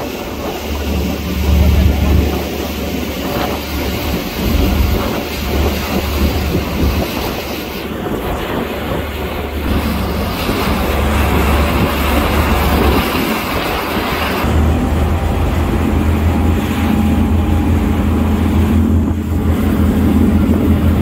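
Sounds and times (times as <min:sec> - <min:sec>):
motorboat engine drone: 0:00.0 - 0:21.0
rushing water: 0:00.0 - 0:21.0
wind: 0:00.0 - 0:21.0.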